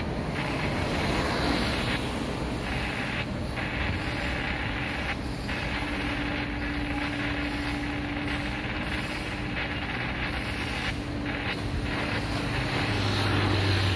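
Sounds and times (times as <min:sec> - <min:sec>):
constant rush of noise: 0:00.0 - 0:13.9
crane engine running: 0:00.0 - 0:13.9
steady hum: 0:00.0 - 0:13.9.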